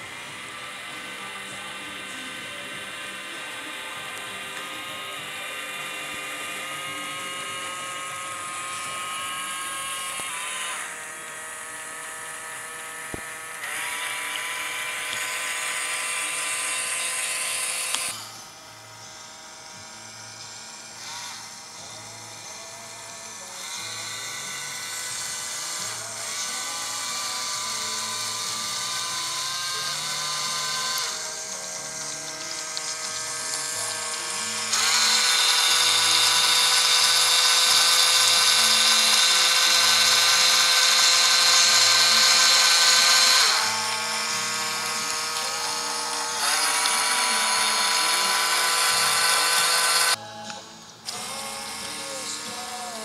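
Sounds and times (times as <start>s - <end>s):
small electric motors whining: 0.0s - 53.0s.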